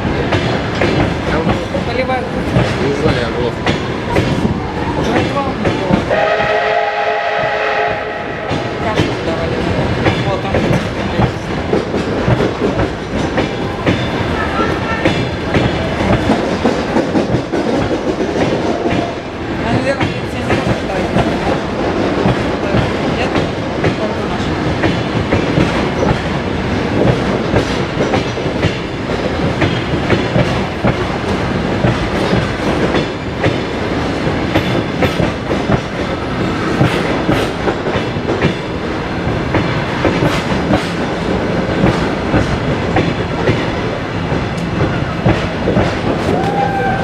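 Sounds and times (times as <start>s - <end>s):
train wheels clattering over rail joints: 0.0s - 6.5s, 8.4s - 47.0s.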